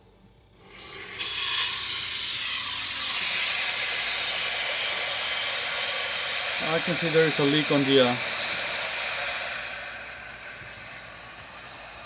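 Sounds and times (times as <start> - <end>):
water hissing through hose: 0.6 - 12.0.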